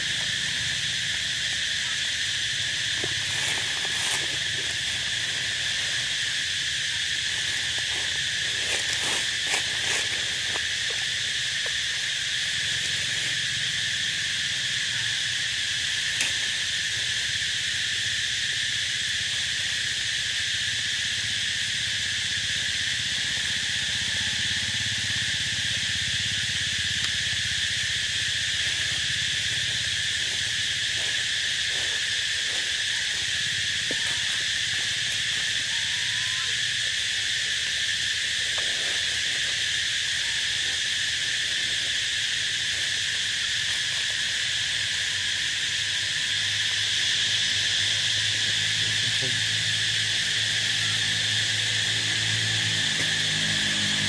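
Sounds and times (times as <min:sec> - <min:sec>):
insect chorus: 0:00.0 - 0:54.0.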